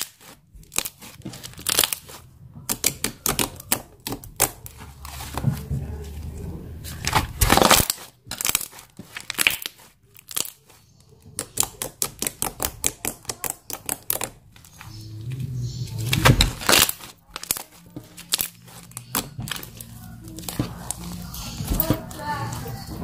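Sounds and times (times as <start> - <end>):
slime crackling and popping: 0.0 - 5.7, 6.8 - 14.9, 15.9 - 22.9
slime squelching: 0.0 - 23.0.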